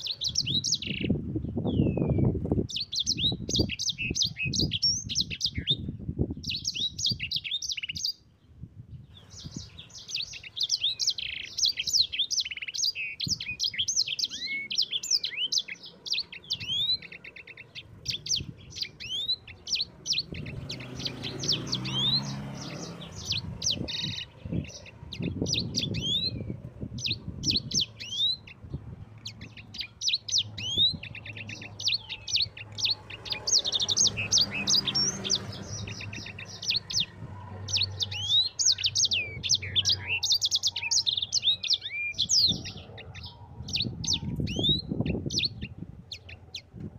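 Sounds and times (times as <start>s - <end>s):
songbird singing trills: 0.0s - 46.9s.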